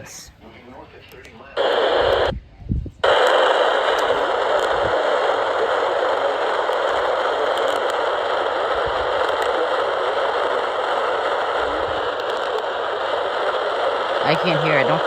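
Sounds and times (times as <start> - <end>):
radio static hiss: 0.0 - 2.3, 3.0 - 15.0.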